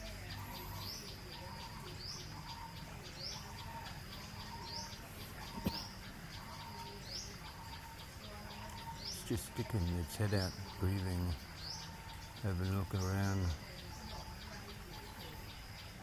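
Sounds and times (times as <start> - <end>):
rapid faint pulsing bird call: 0.0 - 16.0
steady low background noise: 0.0 - 16.0.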